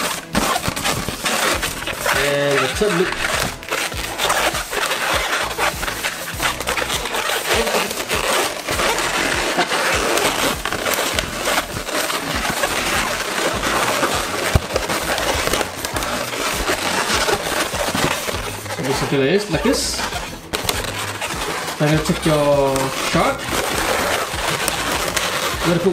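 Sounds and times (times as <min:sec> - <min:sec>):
balloons squeaking and creaking: 0:00.0 - 0:25.9.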